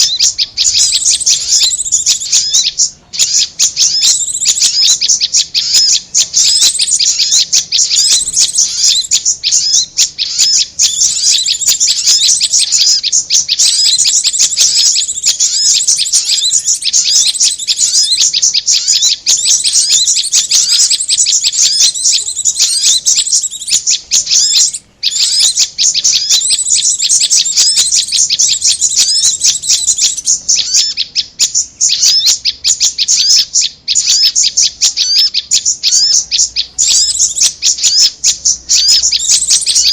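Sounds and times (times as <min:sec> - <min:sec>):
rapid high-pitched bird chirping: 0:00.0 - 0:39.9.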